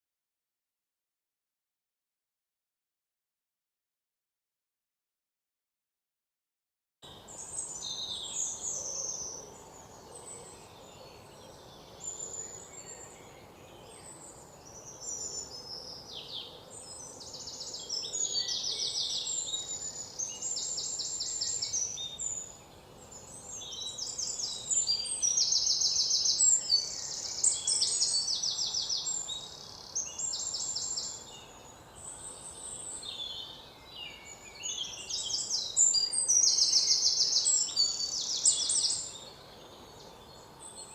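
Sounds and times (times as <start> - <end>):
birds singing and trilling: 7.0 - 40.9
steady background hiss: 7.1 - 40.9.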